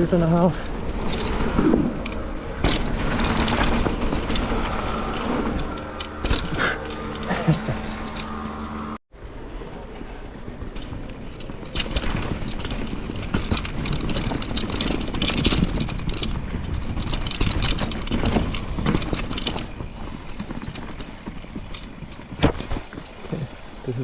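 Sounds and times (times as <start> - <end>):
bike knocks and rattles: 0.0 - 8.4, 10.8 - 24.0
bike tyre rolling noise: 0.0 - 24.0.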